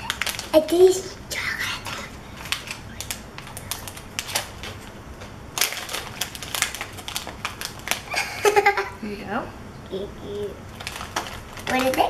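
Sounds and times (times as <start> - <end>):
candy wrapper crackling: 0.0 - 8.8, 10.7 - 12.0.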